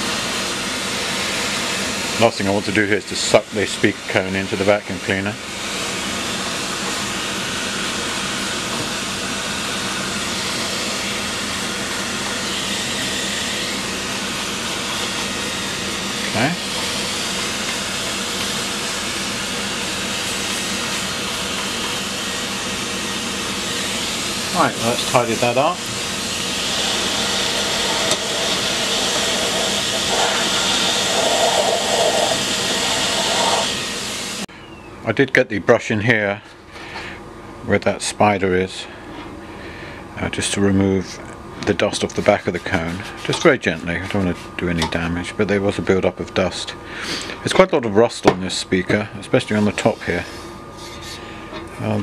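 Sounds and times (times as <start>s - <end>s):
vacuum cleaner running: 0.0s - 34.8s, 36.4s - 52.0s.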